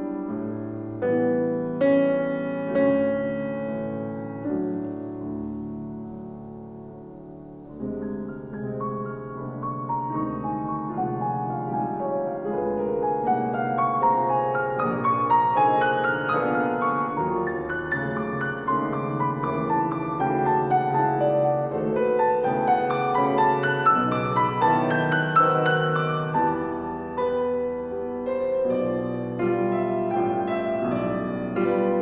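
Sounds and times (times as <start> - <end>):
grand pianos playing classical music: 0.0 - 32.0.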